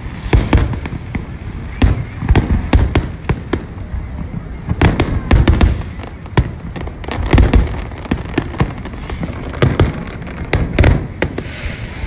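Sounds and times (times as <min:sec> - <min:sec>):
firework bangs: 0:00.0 - 0:12.0
low rumbling: 0:00.0 - 0:12.0.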